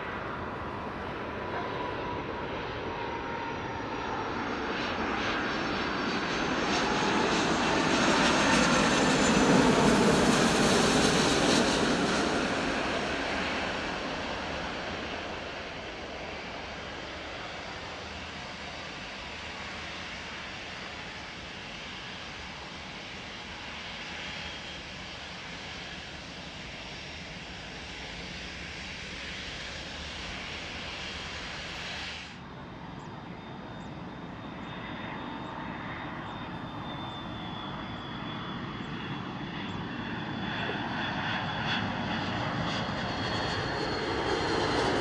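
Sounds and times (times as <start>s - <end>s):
airliner jet rush on landing: 0.0s - 45.0s
jet engines rumble and whine: 0.0s - 45.0s.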